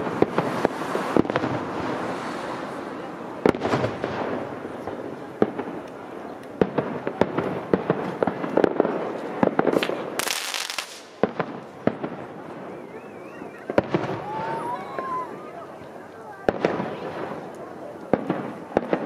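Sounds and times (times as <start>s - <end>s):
crackling fireworks: 0.0s - 19.0s.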